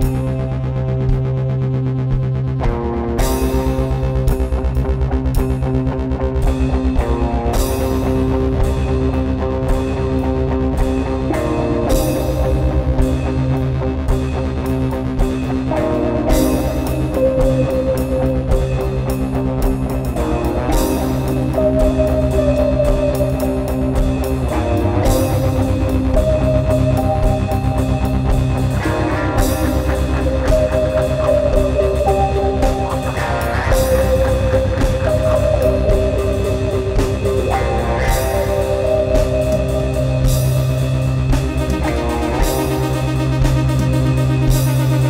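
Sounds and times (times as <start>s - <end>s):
drum kit: 0.0s - 45.0s
guitar sustained notes: 0.0s - 45.0s
keyboard sustained notes: 3.2s - 45.0s.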